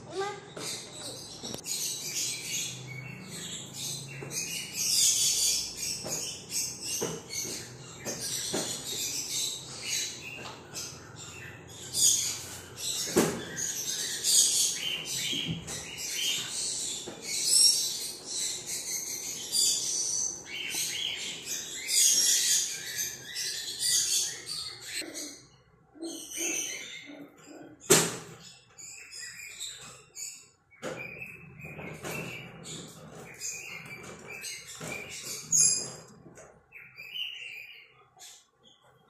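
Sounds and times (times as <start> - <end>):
lovebirds chirping and screeching: 0.0 - 39.0.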